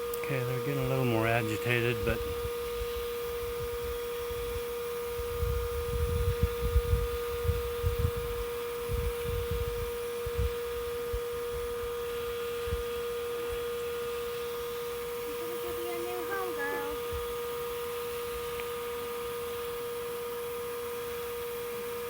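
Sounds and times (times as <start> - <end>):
vacuum motor humming: 0.0 - 22.0.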